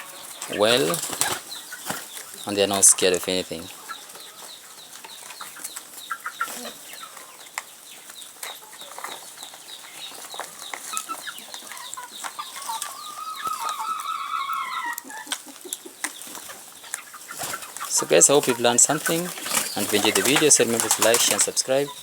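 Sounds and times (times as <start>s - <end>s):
chickens clucking: 0.0s - 22.0s
drawn-out chicken call: 0.0s - 22.0s.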